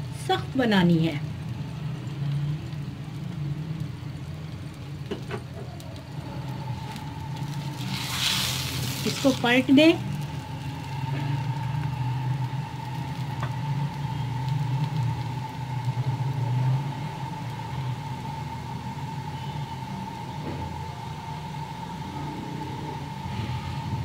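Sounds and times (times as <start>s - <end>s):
faint sizzling of frying in oil: 0.0s - 24.0s
low mechanical hum: 0.0s - 24.0s
thin steady whine: 0.0s - 24.0s.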